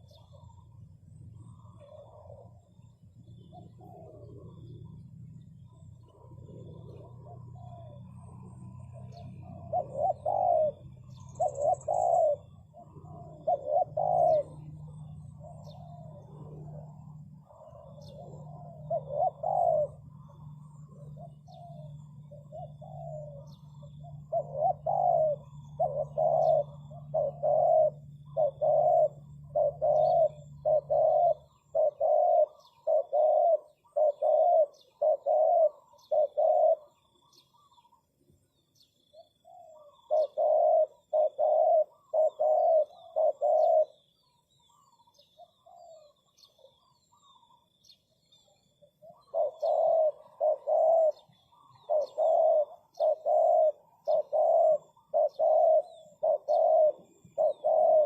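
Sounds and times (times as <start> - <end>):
dove cooing: 0.0 - 58.0
low steady hum: 0.0 - 58.0.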